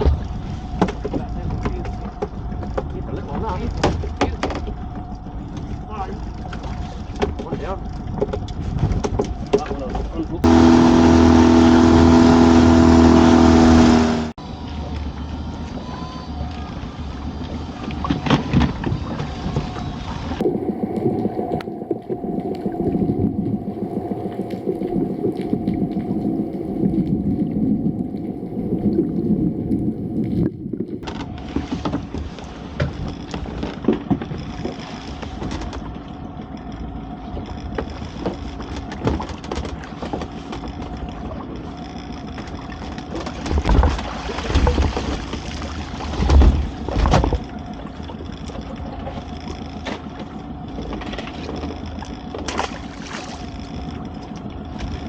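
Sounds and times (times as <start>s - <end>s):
water sloshing against hull: 0.0s - 13.4s, 14.6s - 55.0s
outboard motor hum: 0.0s - 55.0s.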